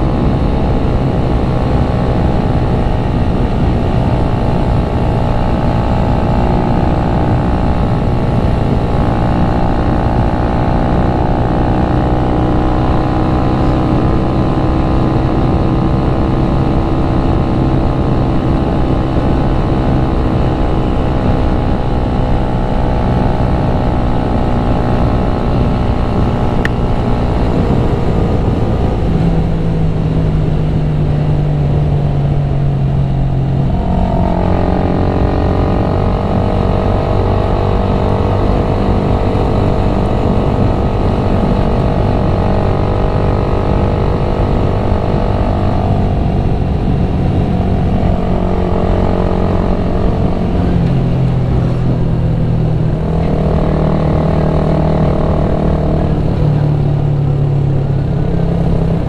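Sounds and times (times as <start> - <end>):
dense low rumble: 0.0 - 59.0
motorcycle engine running: 0.0 - 59.0.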